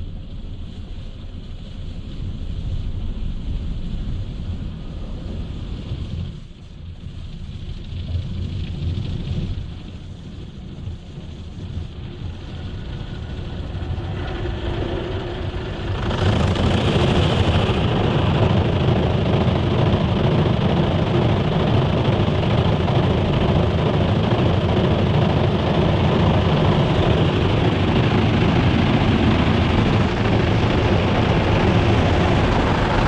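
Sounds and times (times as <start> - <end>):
car wash machinery rumbling: 0.0 - 33.0.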